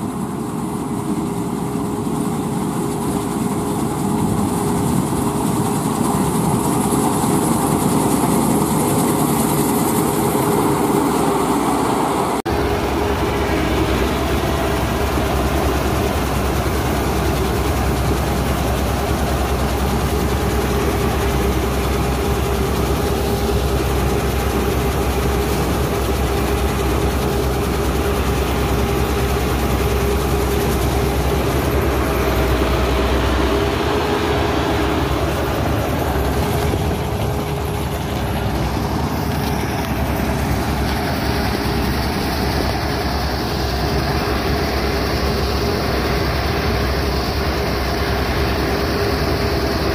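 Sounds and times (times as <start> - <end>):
combine harvester engine droning: 0.0 - 49.9.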